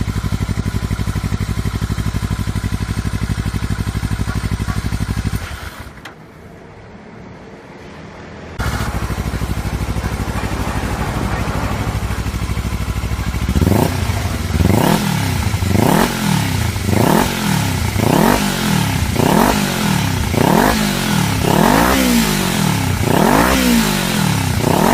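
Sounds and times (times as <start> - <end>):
motorcycle engine idling and revving: 0.0 - 24.9.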